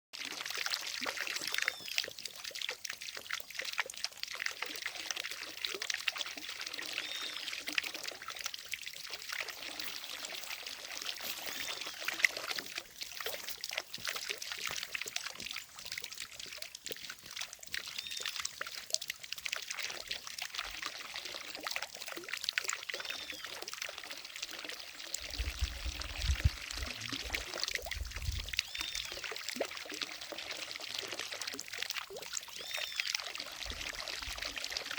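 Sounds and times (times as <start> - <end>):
fountain water splashing into lake: 0.2 - 34.9.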